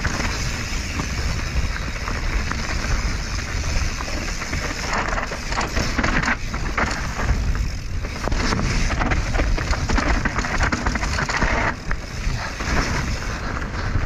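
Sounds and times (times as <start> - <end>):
bike clattering and knocking: 0.0 - 14.0
wind noise on microphone: 0.0 - 14.0.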